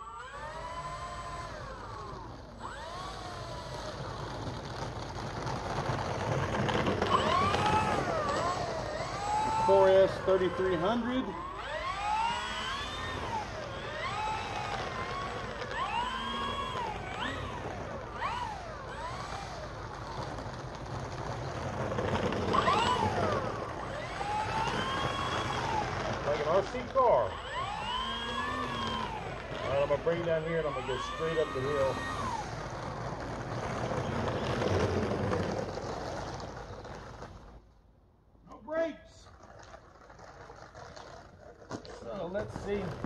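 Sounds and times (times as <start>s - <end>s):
model airplane motors whining: 0.0s - 37.6s, 39.4s - 43.0s.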